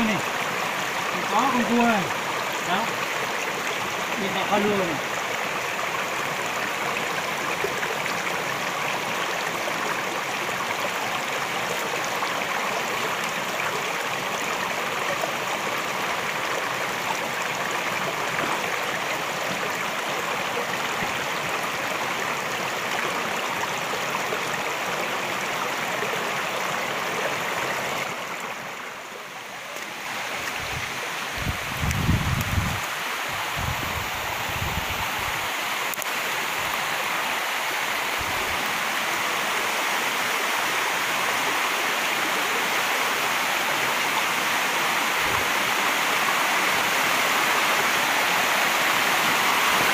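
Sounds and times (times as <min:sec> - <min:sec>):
stream running over stones: 0:00.0 - 0:49.9.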